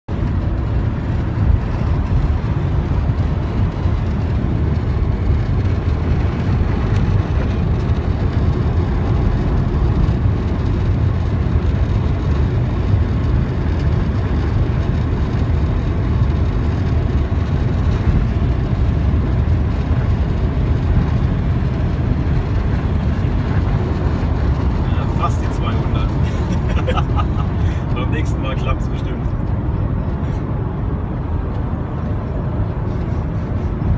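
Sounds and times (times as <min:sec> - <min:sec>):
diesel engine drone: 0:00.1 - 0:33.9.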